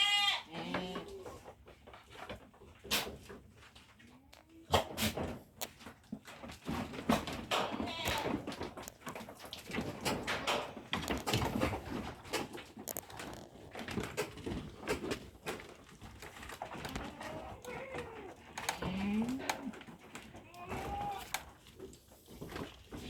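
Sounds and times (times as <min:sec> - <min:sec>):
goats knocking and rustling: 0:00.0 - 0:23.0.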